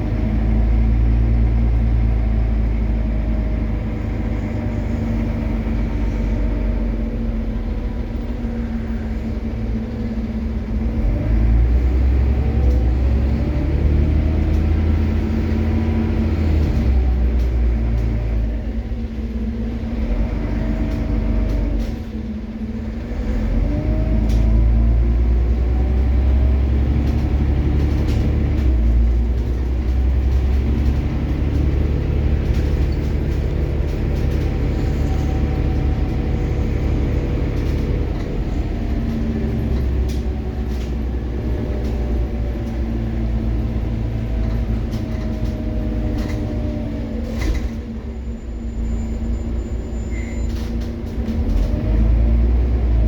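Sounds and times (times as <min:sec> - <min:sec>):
bus engine rumbling: 0:00.0 - 0:53.0.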